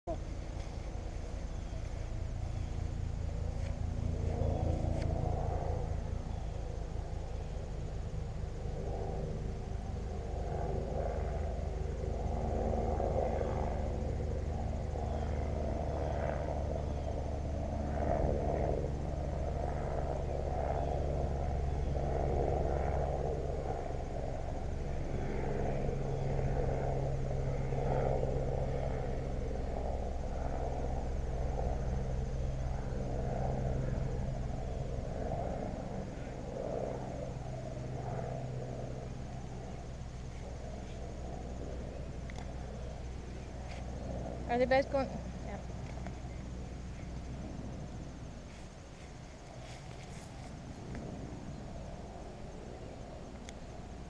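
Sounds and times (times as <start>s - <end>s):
low motor-like hum: 0.0s - 54.0s
fluttering rumble: 0.1s - 54.0s.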